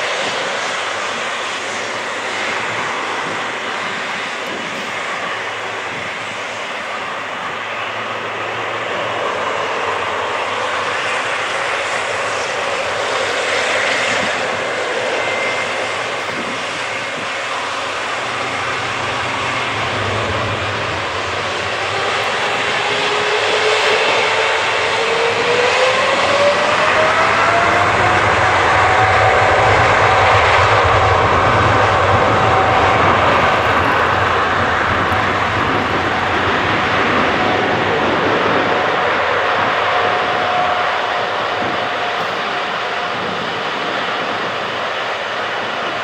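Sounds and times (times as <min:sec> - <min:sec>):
jet engines spooling up: 0:00.0 - 0:46.0.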